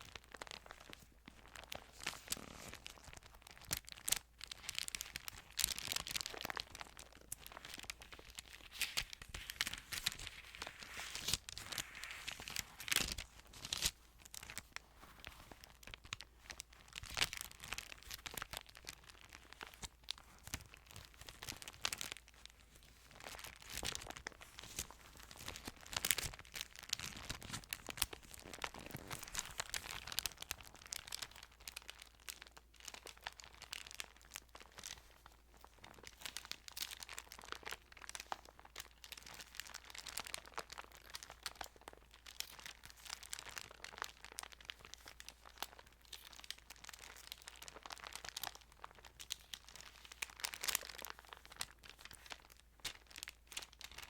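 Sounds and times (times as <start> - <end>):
thin pages rustling and crinkling: 0.0 - 54.0.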